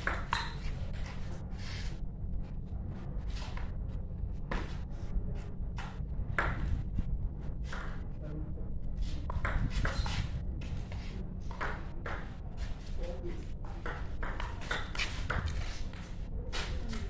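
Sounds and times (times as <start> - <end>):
low rumble: 0.0 - 14.5.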